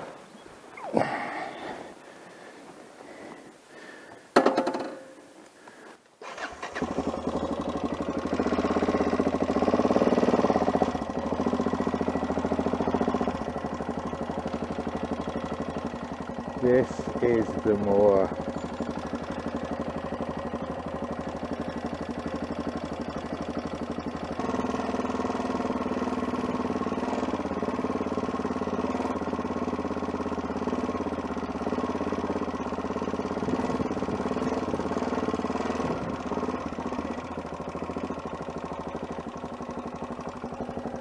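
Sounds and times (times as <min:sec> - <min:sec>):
motorcycle engine running: 0:06.2 - 0:41.0.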